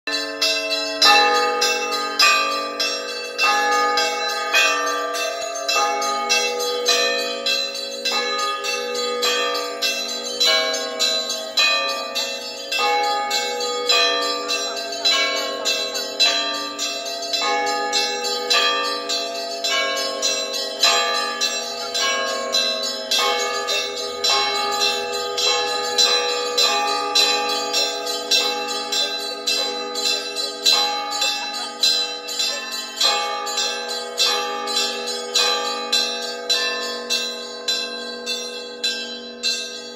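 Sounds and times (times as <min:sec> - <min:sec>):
large bells humming: 0:00.1 - 0:39.9
small bells ringing rhythmically: 0:00.1 - 0:39.9.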